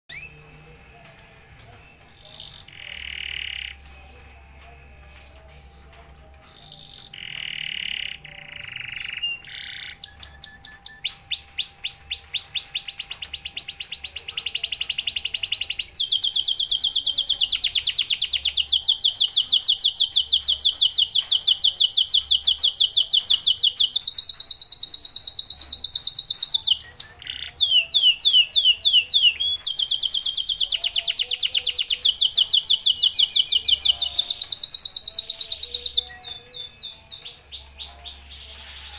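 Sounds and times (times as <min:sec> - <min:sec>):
canary singing trills: 0:00.1 - 0:04.2, 0:06.2 - 0:38.9.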